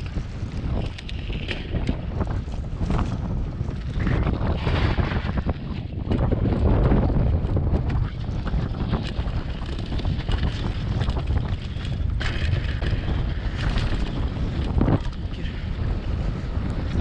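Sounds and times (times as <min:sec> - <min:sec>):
bike rattling: 0:00.0 - 0:17.0
wind buffeting microphone: 0:00.0 - 0:17.0.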